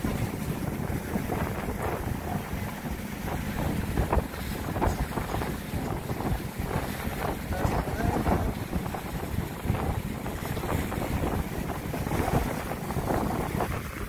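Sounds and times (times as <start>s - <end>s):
boat motor running: 0.0s - 14.0s
water rushing past: 0.0s - 14.0s
wind buffeting microphone: 0.0s - 14.0s.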